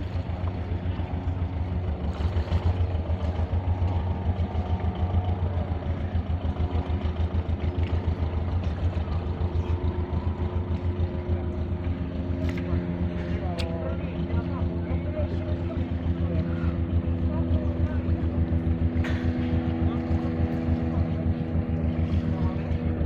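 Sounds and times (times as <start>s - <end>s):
boat engine droning: 0.0s - 23.0s
water rushing: 0.0s - 23.0s.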